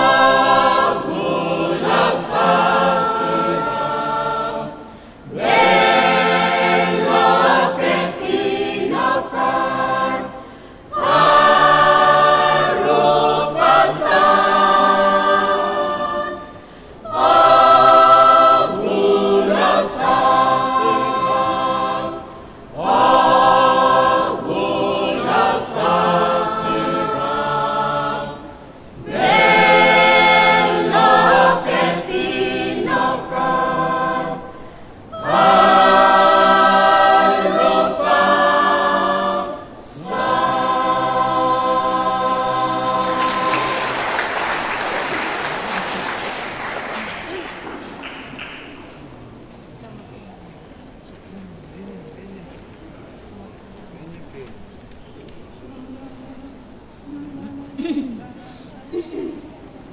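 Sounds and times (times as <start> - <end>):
choir singing a hymn a cappella: 0.0 - 49.8, 55.4 - 59.9.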